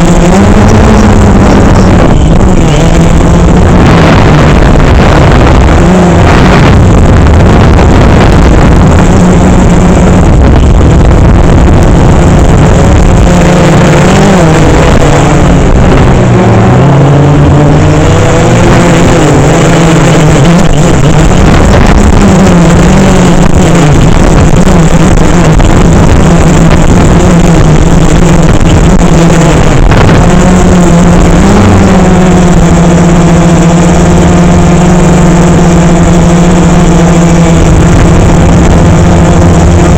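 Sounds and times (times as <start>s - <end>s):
drone propellers buzzing: 0.0s - 39.9s
wind noise on microphone: 0.0s - 39.9s.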